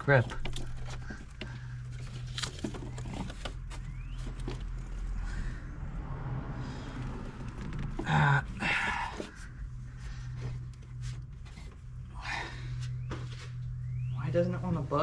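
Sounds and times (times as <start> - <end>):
rubber hose rubbing and scraping: 0.0 - 5.5, 6.6 - 13.9
low steady hum: 0.0 - 15.0.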